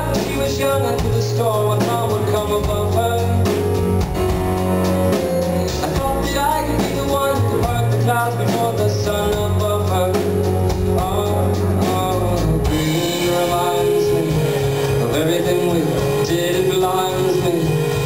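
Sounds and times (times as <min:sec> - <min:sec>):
man singing: 0:00.0 - 0:04.2, 0:05.0 - 0:18.0
drums keeping the beat: 0:00.0 - 0:18.0
keyboard playing: 0:00.0 - 0:18.0.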